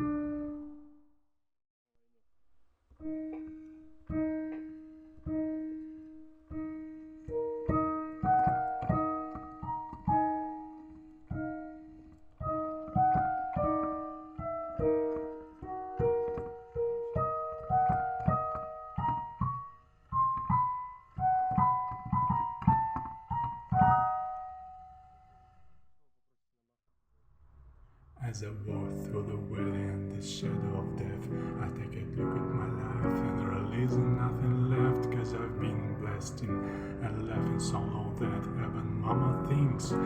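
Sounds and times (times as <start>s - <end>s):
solo piano music: 0.0s - 1.0s, 3.0s - 25.7s, 28.5s - 40.0s.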